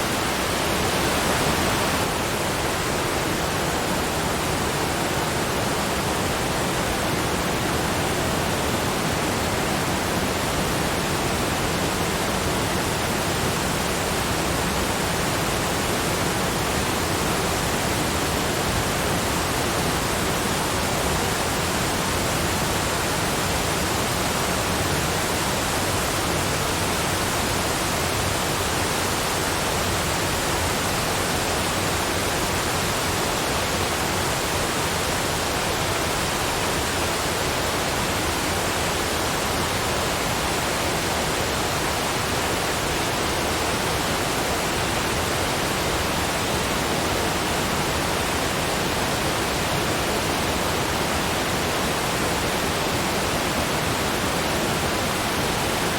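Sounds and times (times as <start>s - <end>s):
waterfall: 0.0s - 55.9s.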